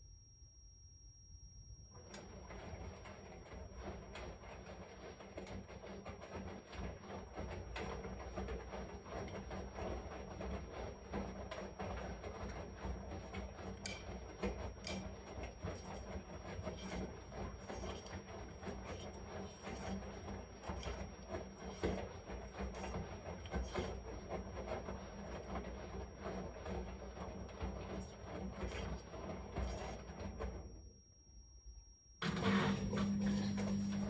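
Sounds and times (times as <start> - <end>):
washing machine running: 1.9 - 30.9, 32.2 - 34.0.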